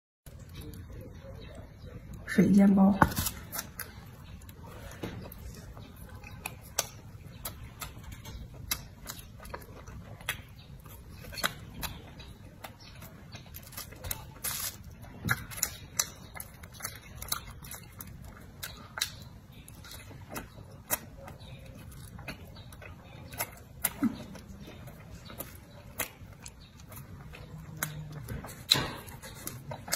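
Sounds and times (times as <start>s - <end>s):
chewing with wet clicks: 0.3s - 2.3s, 3.2s - 29.9s
lip smacks: 3.3s - 29.9s.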